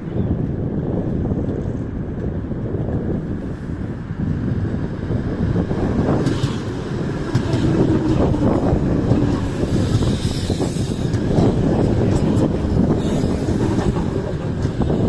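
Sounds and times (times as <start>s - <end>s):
train rumbling past: 0.7s - 15.0s.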